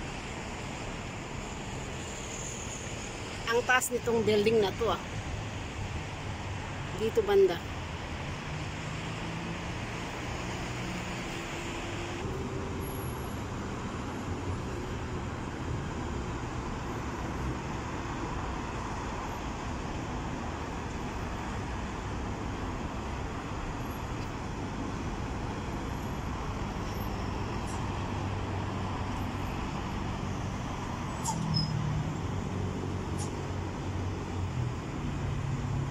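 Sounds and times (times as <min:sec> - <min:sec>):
road traffic passing: 0:00.0 - 0:35.9.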